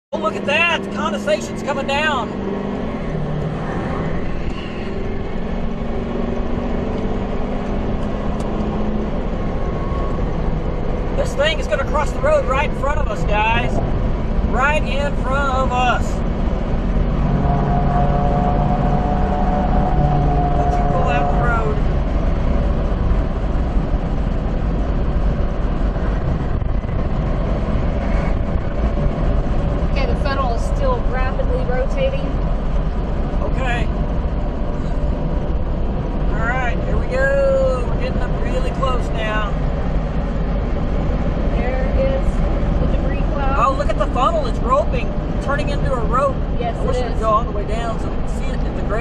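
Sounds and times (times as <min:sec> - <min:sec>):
car engine and road noise: 0:00.1 - 0:49.0.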